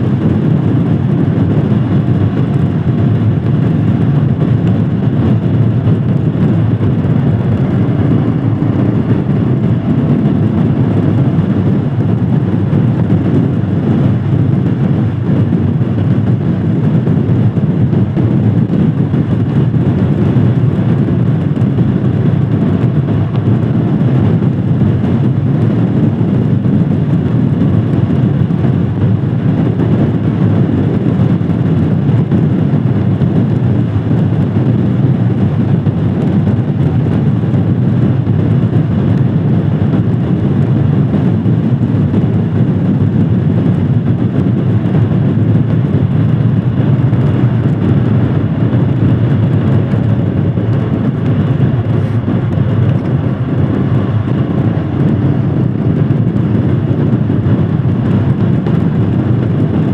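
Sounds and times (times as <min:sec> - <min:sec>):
motorcycle engine running: 0:00.0 - 0:59.9
rush of air and road noise: 0:00.0 - 0:59.9.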